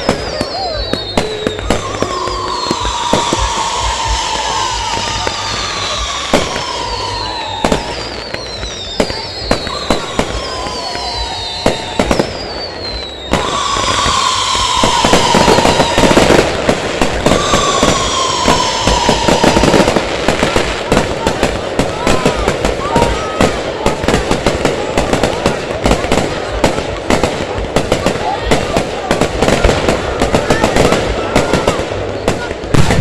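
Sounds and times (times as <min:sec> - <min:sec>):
dense firework crackling: 0:00.0 - 0:33.0
falling firework whistles: 0:00.0 - 0:33.0.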